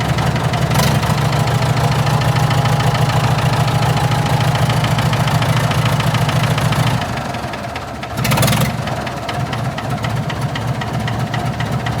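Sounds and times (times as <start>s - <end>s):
tractor engine idling with knock: 0.0s - 12.0s.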